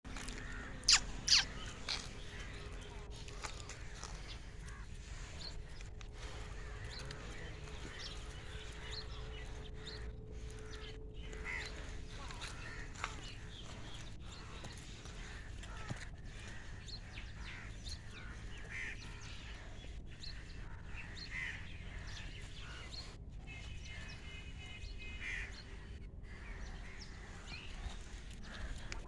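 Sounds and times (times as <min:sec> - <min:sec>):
birds chirping: 0:00.0 - 0:29.0
low outdoor background noise: 0:00.0 - 0:29.0.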